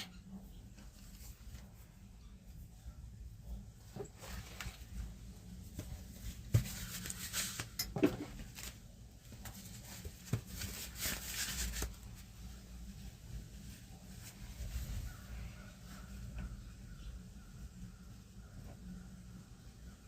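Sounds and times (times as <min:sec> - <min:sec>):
rustling: 0:00.0 - 0:16.7.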